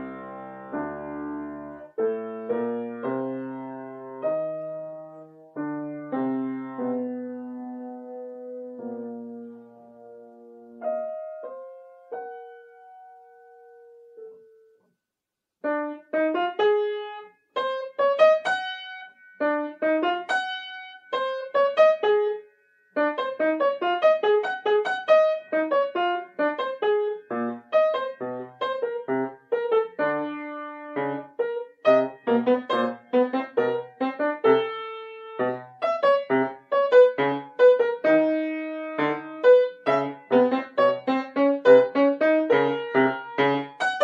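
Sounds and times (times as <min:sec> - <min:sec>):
solo piano: 0:00.0 - 0:44.0.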